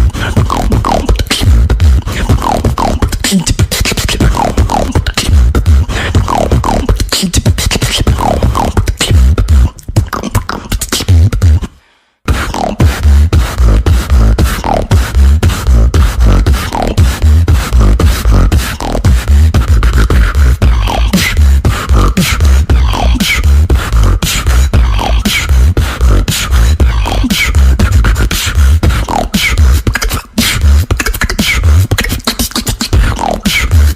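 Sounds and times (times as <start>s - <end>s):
beatboxing vocal percussion: 0.0s - 33.9s.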